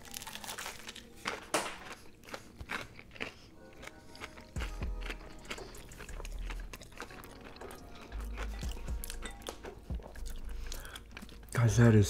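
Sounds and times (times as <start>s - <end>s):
crunchy chewing: 0.0s - 11.6s
background music: 0.0s - 12.0s.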